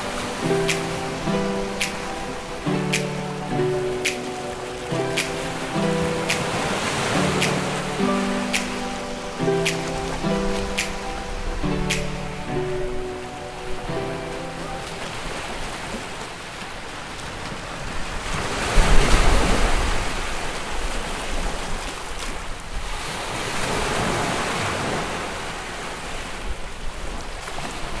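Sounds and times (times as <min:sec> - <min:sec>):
sea waves washing: 0:00.0 - 0:28.0
wind: 0:00.0 - 0:28.0.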